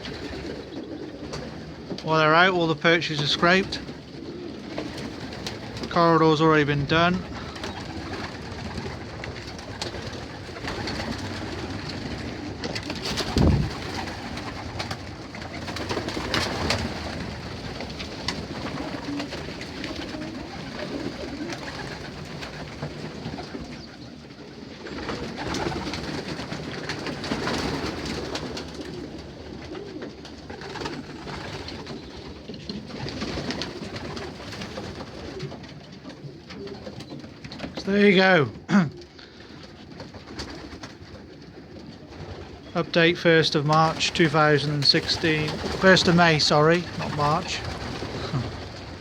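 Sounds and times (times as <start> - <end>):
pigeons cooing: 0.0 - 49.0.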